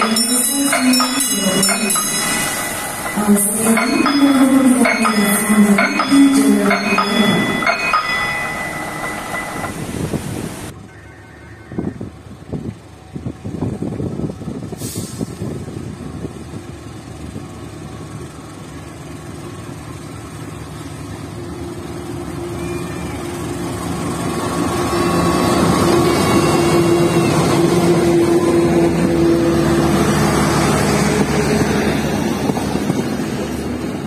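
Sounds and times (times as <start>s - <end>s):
diesel locomotive engine passing: 0.0s - 34.0s
rumble of coaches rolling by: 0.0s - 34.0s.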